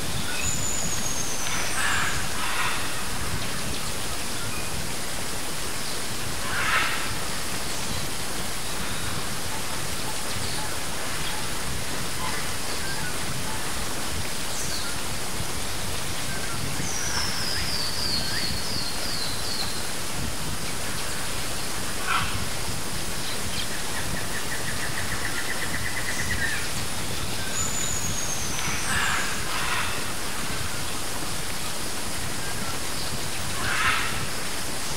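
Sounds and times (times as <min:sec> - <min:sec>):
waterfall rushing: 0:00.0 - 0:34.9
birds calling: 0:00.1 - 0:04.8, 0:05.6 - 0:15.2, 0:16.2 - 0:34.9.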